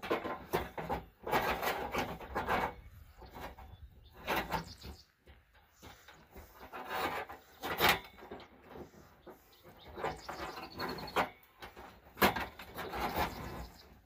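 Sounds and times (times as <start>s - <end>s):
skunks scraping inside a trap: 0.0s - 14.0s.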